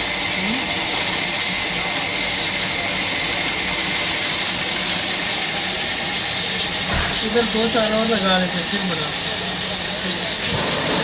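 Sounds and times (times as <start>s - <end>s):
gas burners roaring: 0.0s - 11.0s
liquid boiling in pans: 0.0s - 11.0s.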